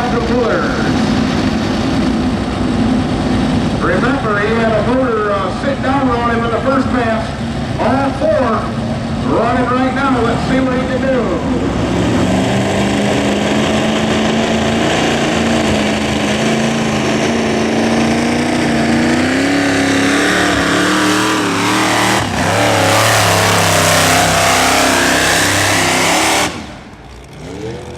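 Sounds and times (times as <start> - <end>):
tractor engines running hard: 0.0 - 27.9.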